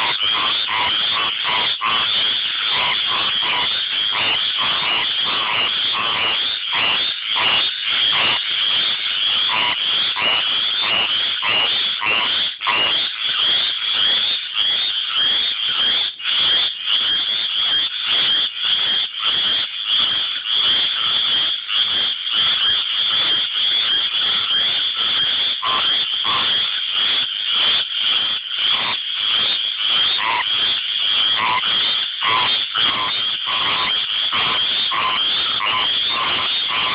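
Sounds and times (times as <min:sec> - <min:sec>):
tree frogs trilling: 0:00.0 - 0:36.9.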